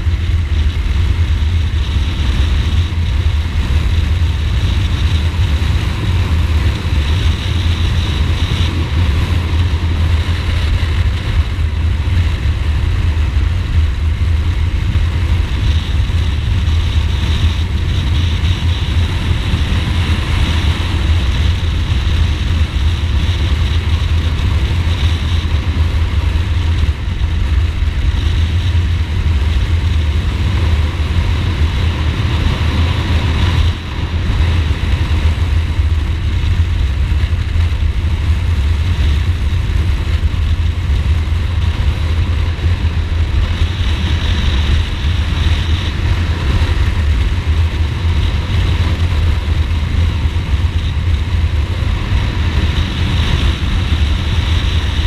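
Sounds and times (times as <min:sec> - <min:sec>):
motorcycle engine running: 0:00.0 - 0:55.0
wind hiss: 0:00.0 - 0:55.0.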